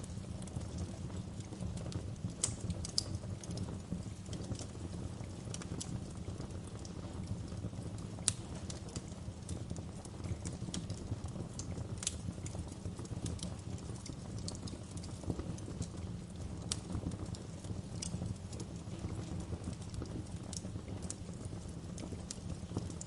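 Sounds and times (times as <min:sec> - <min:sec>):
fire crackling and popping: 0:00.0 - 0:23.0
fire flames rumbling: 0:00.0 - 0:23.0.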